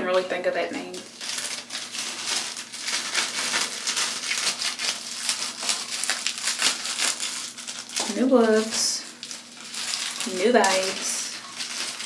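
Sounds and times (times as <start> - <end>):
thin plastic crinkling: 0.0 - 12.0.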